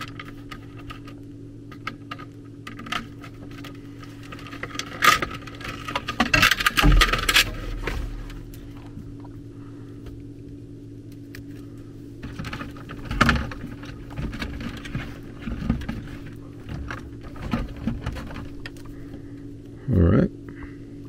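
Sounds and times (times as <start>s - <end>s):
wires rustling and clicking: 0.0s - 9.4s, 10.0s - 19.8s
steady low hum: 0.0s - 21.0s.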